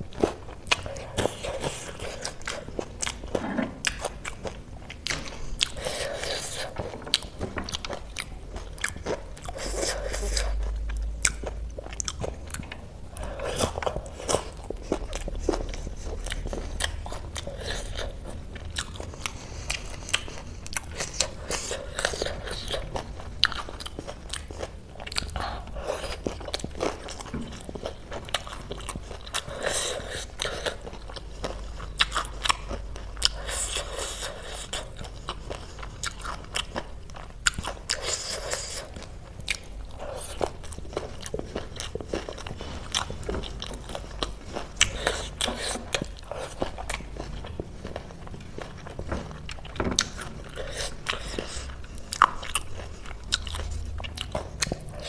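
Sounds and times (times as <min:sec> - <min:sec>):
chewing: 0:00.0 - 0:55.0
snack crunching: 0:00.0 - 0:55.0.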